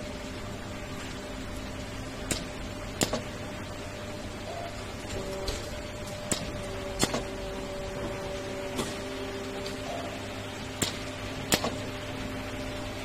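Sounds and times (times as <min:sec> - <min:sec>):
welding machine electrical hum: 0:00.0 - 0:13.0.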